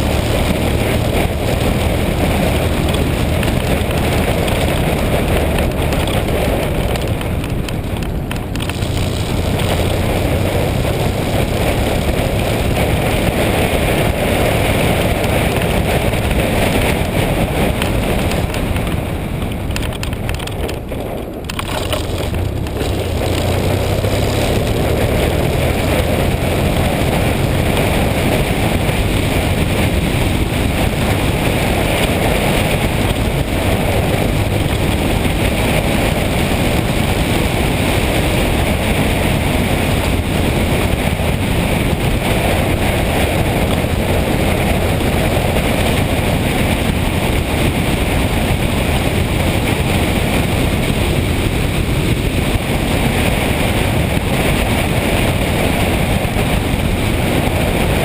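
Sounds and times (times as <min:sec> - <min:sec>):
motorcycle engine hum: 0:00.0 - 0:58.0
road noise: 0:00.0 - 0:58.0
wind on microphone: 0:00.0 - 0:58.0.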